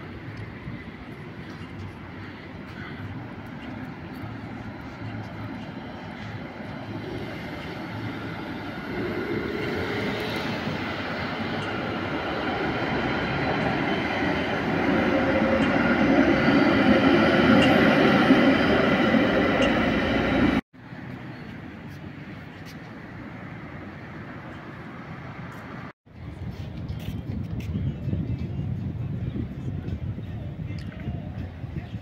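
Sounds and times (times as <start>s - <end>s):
tram passing close by: 0.0s - 26.8s
street traffic: 0.0s - 32.0s.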